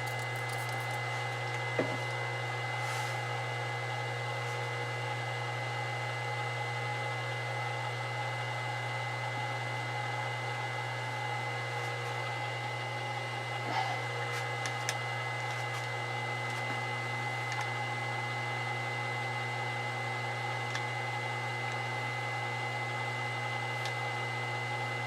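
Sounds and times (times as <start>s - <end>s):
milling machine hum and whine: 0.0s - 25.0s.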